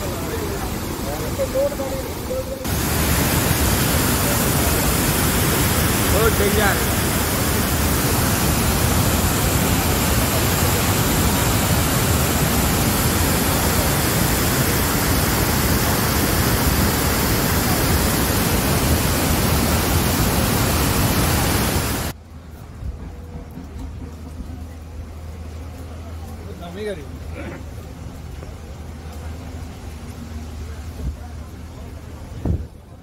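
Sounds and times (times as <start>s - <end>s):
floodwater rushing: 0.0s - 22.2s, 24.0s - 33.0s.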